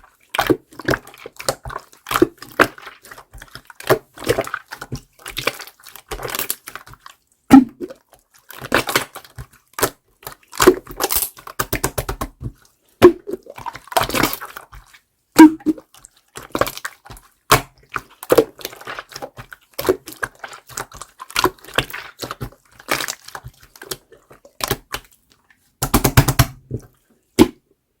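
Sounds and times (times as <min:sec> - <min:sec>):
slime squelching and popping: 0:00.2 - 0:27.6.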